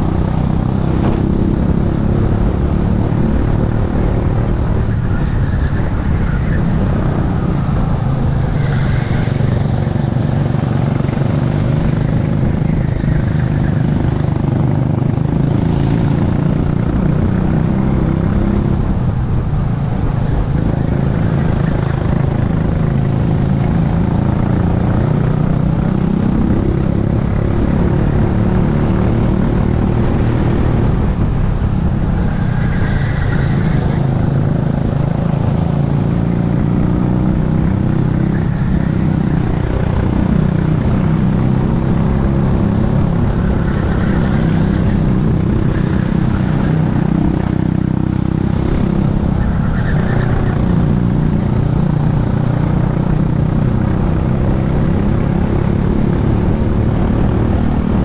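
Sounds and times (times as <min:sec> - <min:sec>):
racing kart engine: 0:00.0 - 0:58.0.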